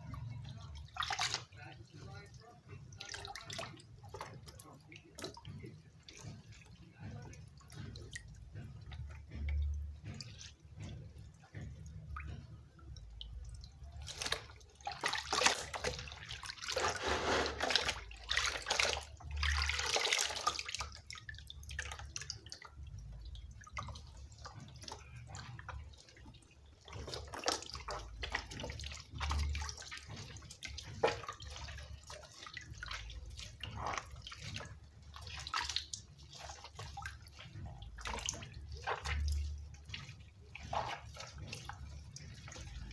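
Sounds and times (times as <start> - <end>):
water sloshing and splashing: 0.0 - 42.9
water streaming and dripping: 0.0 - 42.9.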